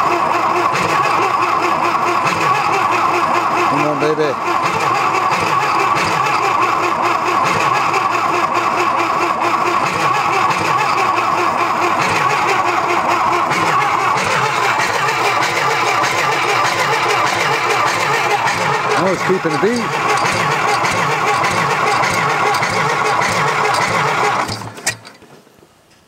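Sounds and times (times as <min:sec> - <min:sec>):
tractor engine cranking: 0:00.0 - 0:25.4.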